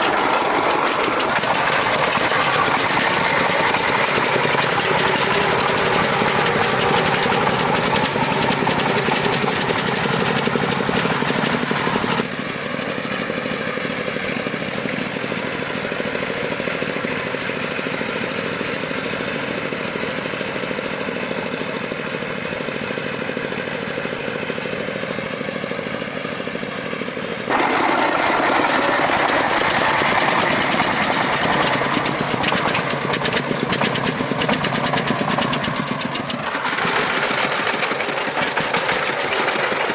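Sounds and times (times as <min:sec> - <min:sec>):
truck engine chugging: 0:00.0 - 0:39.9.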